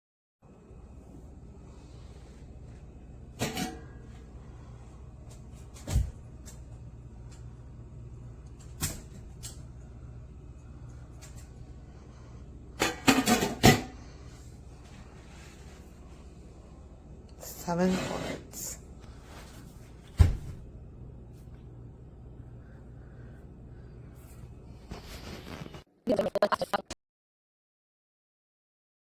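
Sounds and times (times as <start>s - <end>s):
steady low hum: 0.4s - 25.8s.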